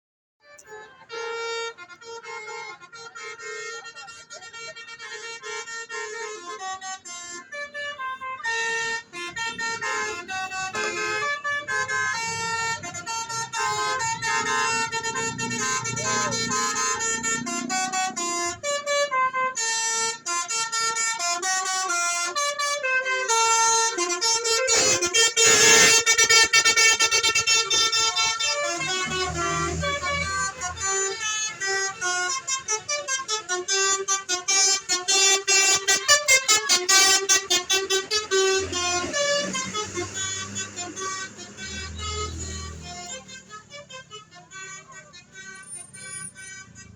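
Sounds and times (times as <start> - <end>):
musical bus air horn: 0.4 - 46.9
harsh horn blast: 0.6 - 46.9.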